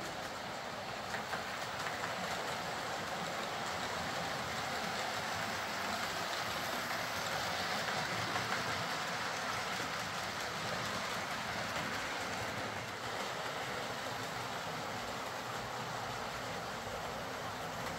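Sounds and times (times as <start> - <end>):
wheels rolling on rails: 0.0 - 17.9.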